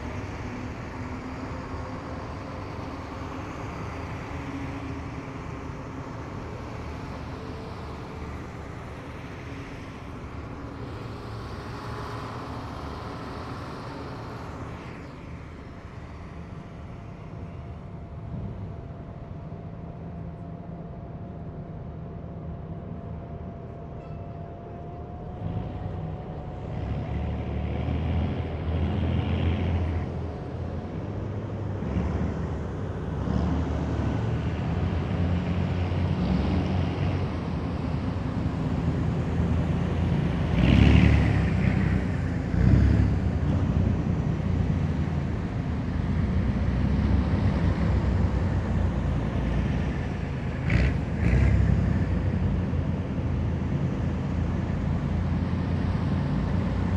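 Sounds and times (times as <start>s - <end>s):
heavy vehicles driving past: 0.0s - 20.6s, 25.1s - 56.9s.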